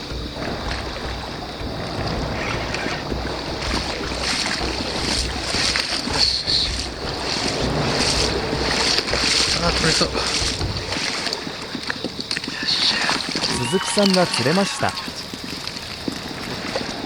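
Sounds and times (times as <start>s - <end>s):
river current rushing: 0.0s - 17.0s
wind buffeting microphone: 0.0s - 17.0s.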